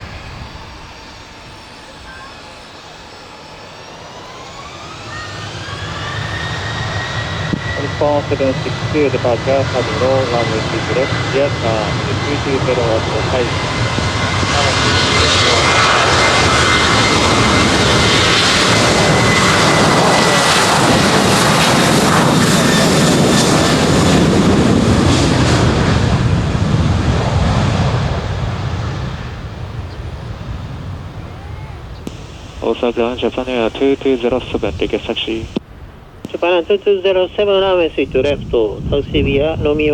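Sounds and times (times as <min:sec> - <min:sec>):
jet engine whine rising: 0:00.0 - 0:35.6, 0:36.2 - 0:39.9
jet engine rumble: 0:00.0 - 0:39.9.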